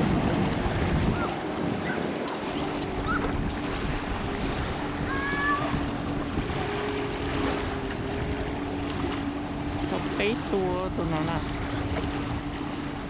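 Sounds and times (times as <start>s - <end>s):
river water flowing: 0.0s - 13.0s
wind buffeting microphone: 0.0s - 13.0s.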